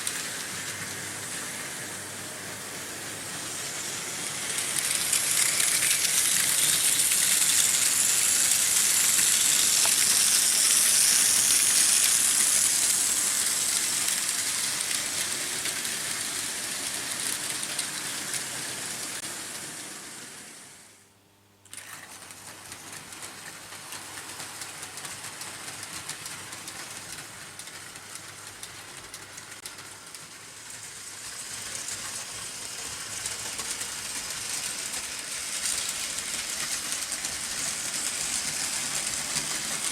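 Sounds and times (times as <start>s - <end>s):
model train wheels rattling: 3.8s - 18.7s, 21.7s - 39.9s.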